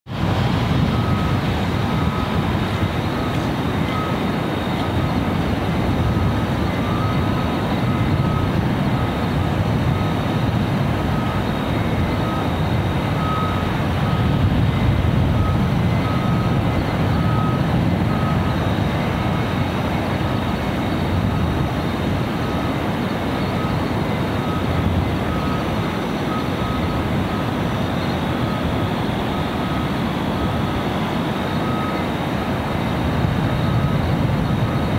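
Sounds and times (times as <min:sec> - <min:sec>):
distant industrial machinery rumble: 0:00.1 - 0:34.9
faint reversing alarm beeping: 0:00.3 - 0:34.9.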